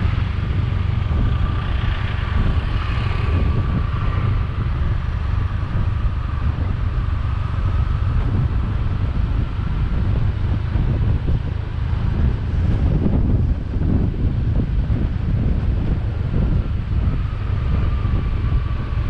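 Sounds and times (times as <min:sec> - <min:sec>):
motorbike engine running: 0:00.0 - 0:19.0
wind buffeting microphone: 0:00.0 - 0:19.0.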